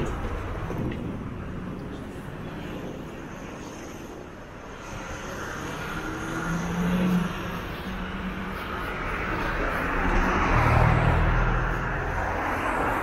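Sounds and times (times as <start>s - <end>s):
airplane rumble: 0.0s - 13.0s.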